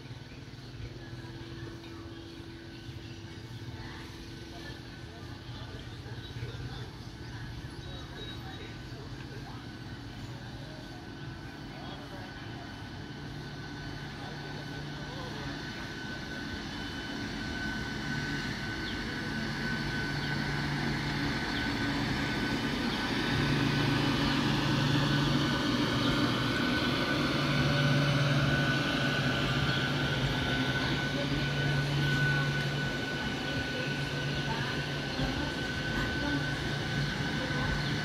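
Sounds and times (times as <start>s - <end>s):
electric train running past: 0.0s - 38.0s
high steady whine: 0.0s - 38.0s.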